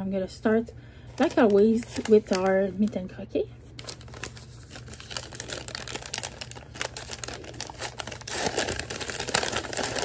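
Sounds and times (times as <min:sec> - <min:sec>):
paper bag crinkling: 0:01.2 - 0:03.0, 0:03.8 - 0:10.0.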